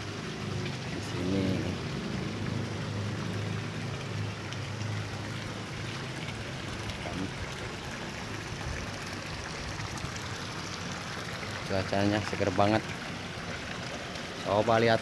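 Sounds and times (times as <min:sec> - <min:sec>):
water pouring into pond: 0:00.0 - 0:15.0.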